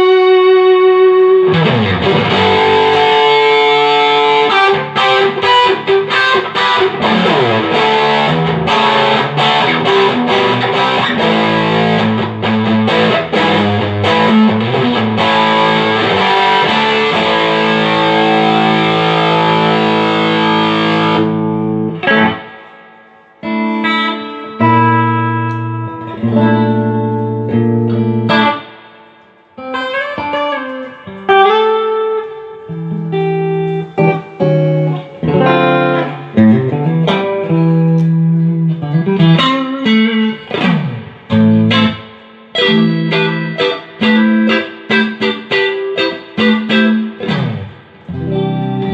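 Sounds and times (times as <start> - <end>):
electric guitar through tube amp: 0.0 - 48.9.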